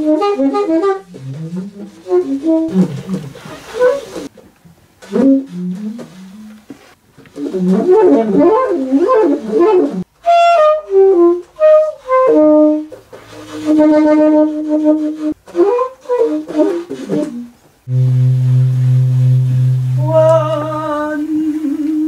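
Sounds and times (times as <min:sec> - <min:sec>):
saxophone improvising: 0:00.0 - 0:04.3, 0:05.0 - 0:22.0.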